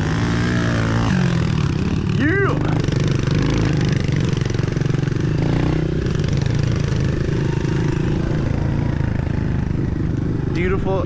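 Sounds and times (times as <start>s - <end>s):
pit bike engine running: 0.0s - 11.0s.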